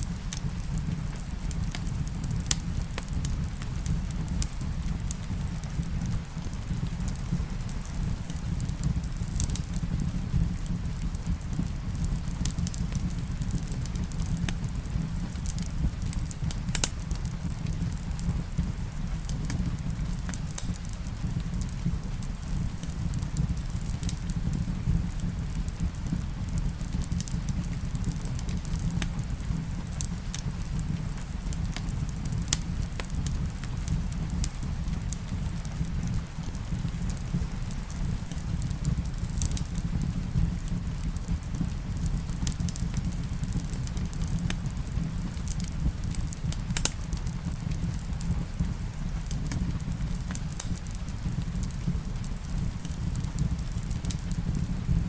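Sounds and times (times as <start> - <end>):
rain: 0.0 - 55.0
wood fire crackling: 0.0 - 55.0.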